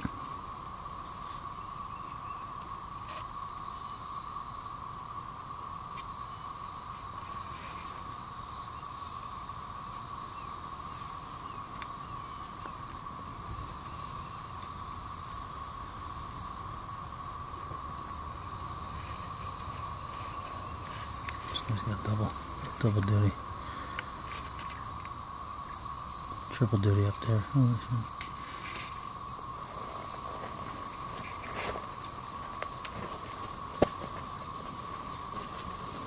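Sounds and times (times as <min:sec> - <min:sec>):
insects whining: 0:00.0 - 0:36.0
shrill insect buzz: 0:00.0 - 0:36.0.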